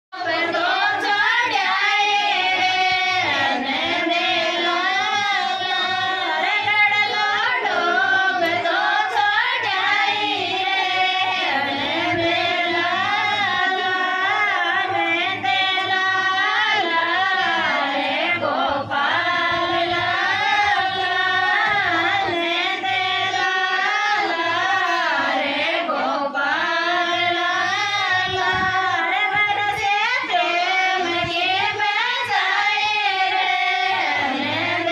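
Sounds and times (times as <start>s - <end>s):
women singing devotional song: 0.2s - 34.9s.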